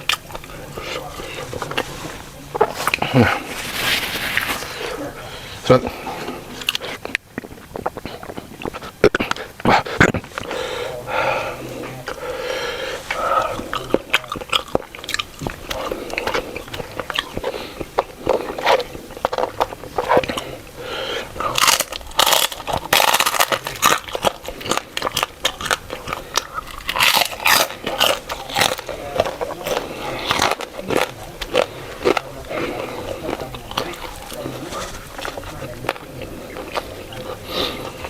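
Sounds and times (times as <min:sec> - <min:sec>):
person chewing crunchy food: 0:00.0 - 0:38.0
wet mouth sounds: 0:00.0 - 0:38.0.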